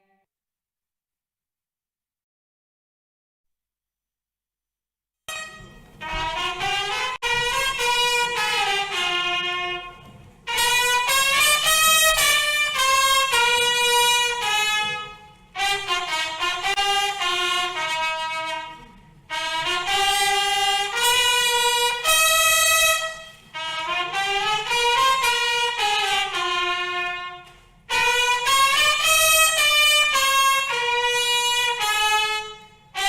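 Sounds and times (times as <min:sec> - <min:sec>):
brass instrumental melody: 0:05.3 - 0:33.0.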